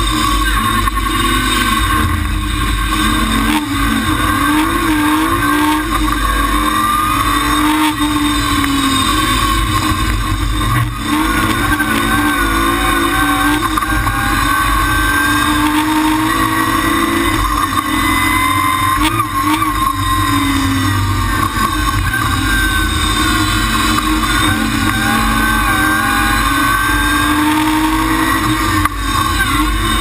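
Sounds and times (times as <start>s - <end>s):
rally car engine revving: 0.0s - 30.0s.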